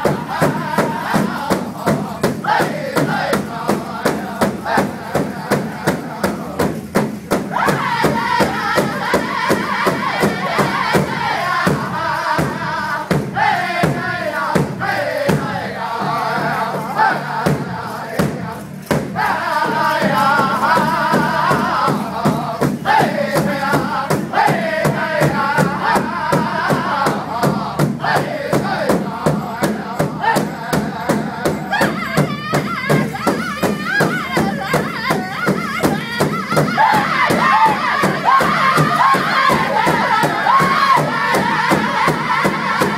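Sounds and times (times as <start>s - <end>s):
big drum beating: 0.0s - 42.9s
men singing in unison: 0.0s - 42.9s.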